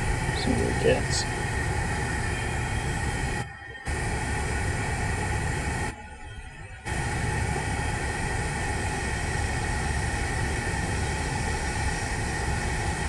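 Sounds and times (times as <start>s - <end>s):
sap bubbling at a boil: 0.0s - 5.9s, 6.9s - 13.0s
gas burner low rumble: 0.0s - 6.1s, 6.8s - 13.0s.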